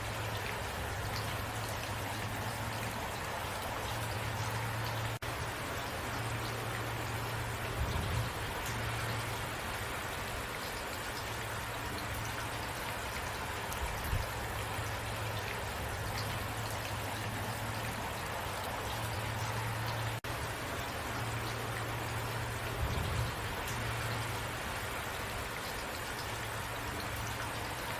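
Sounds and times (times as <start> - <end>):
steady rain patter: 0.0 - 27.9.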